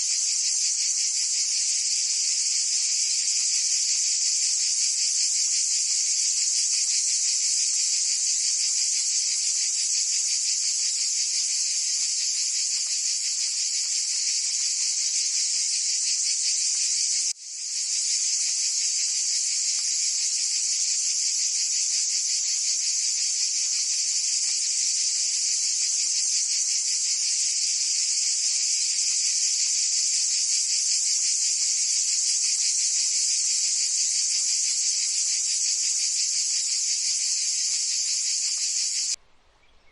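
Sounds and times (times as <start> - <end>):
high-pitched insect chorus: 0.0 - 39.2.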